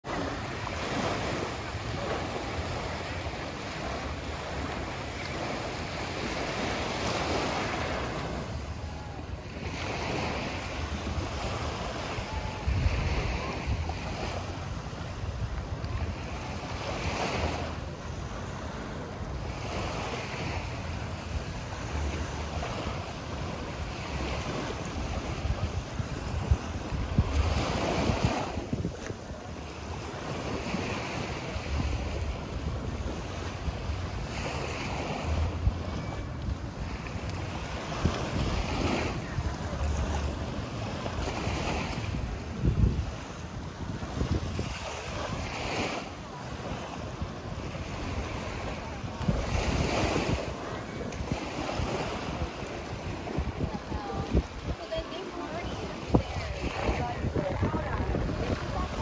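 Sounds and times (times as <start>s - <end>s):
waves washing onto beach: 0.0s - 59.0s
wind buffeting microphone: 0.1s - 59.0s.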